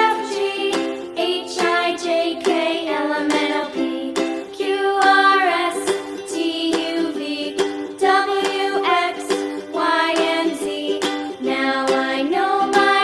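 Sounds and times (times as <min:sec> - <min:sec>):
plucked ukulele-like strings: 0:00.0 - 0:13.0.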